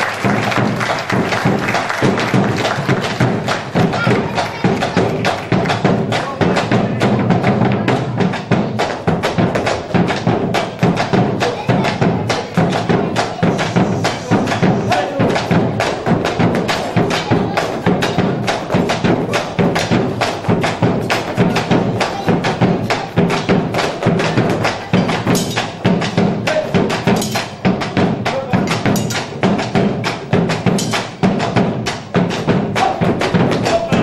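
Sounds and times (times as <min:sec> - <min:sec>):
quick percussive strokes: 0:00.0 - 0:34.0.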